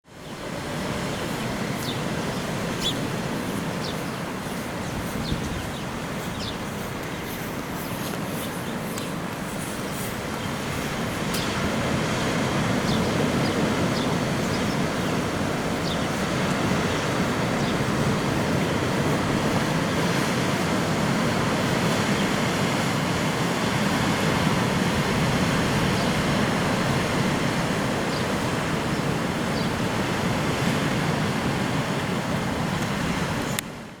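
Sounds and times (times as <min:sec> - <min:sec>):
waves washing in: 0:00.1 - 0:34.0.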